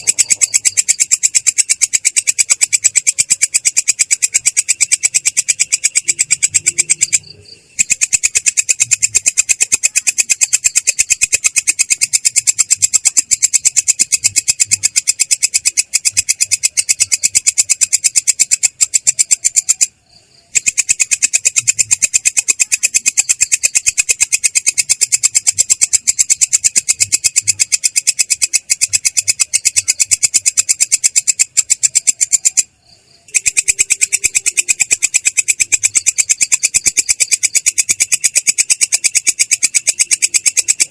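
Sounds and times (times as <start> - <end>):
katydid high-pitched trill: 0.0 - 40.9.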